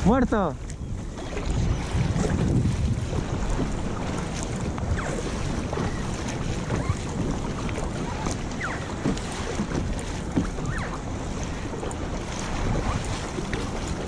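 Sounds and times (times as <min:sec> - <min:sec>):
water lapping around kayak: 0:00.0 - 0:14.0
wind noise on microphone: 0:00.0 - 0:14.0.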